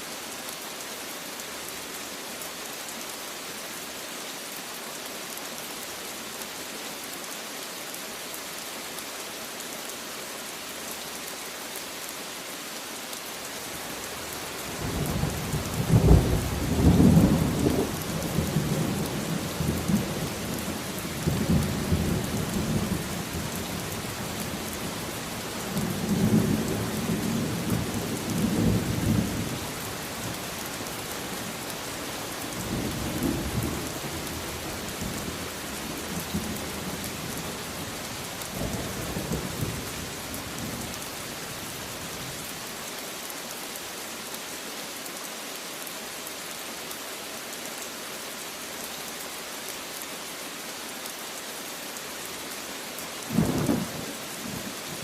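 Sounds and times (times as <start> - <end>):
rain hissing: 0.0 - 55.0.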